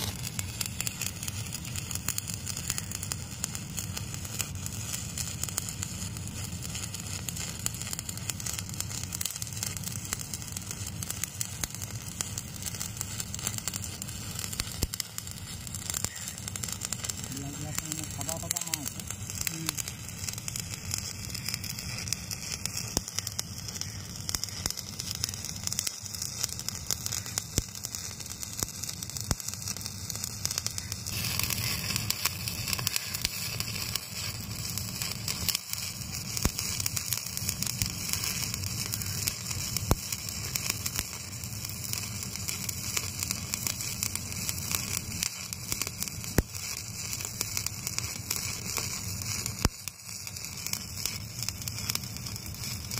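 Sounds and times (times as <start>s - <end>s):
sharp pops: 0.0s - 5.8s, 6.5s - 52.9s
welding arc crackling and sizzling: 0.0s - 52.9s.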